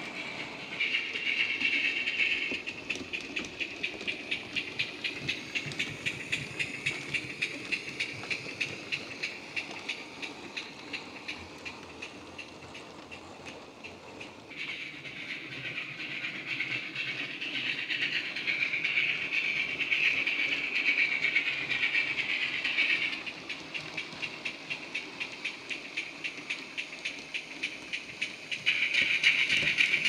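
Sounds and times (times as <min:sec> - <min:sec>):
steam hiss: 0:00.0 - 0:30.0
steam locomotive exhaust chuffs: 0:00.0 - 0:30.0.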